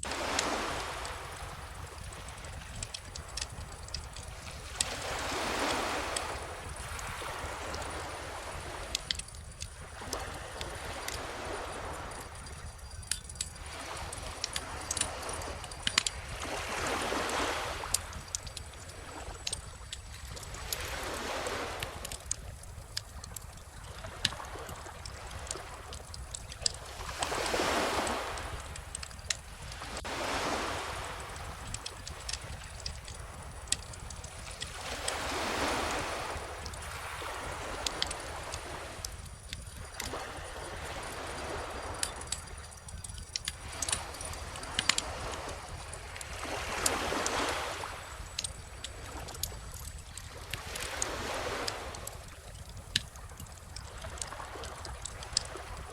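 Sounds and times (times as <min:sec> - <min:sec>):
ocean waves washing in: 0:00.0 - 0:19.6, 0:20.3 - 0:49.9
wood fire crackling and popping: 0:00.0 - 0:46.9, 0:48.2 - 0:51.0, 0:51.6 - 0:55.9.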